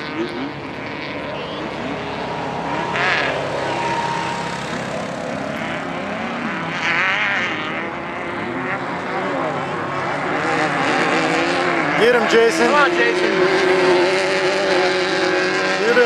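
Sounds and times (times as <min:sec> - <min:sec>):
race vehicle engines revving: 0:00.0 - 0:16.0.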